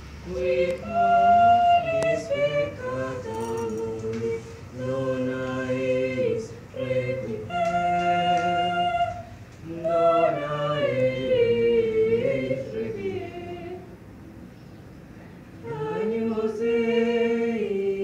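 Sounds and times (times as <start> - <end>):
young singers singing a hymn: 0.0 - 14.0, 15.6 - 18.0.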